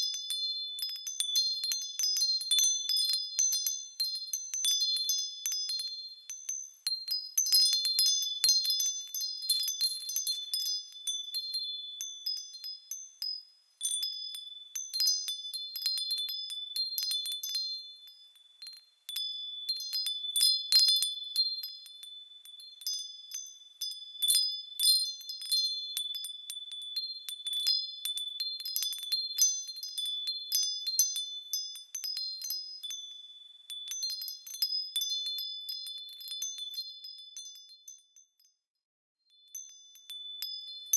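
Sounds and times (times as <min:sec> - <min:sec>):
small metal bells ringing: 0:00.0 - 0:40.9.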